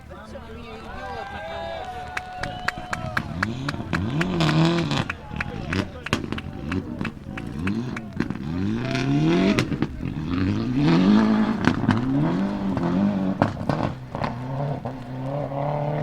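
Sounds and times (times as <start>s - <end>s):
car engine revving: 0.0s - 16.0s
sharp exhaust cracks: 0.0s - 16.0s.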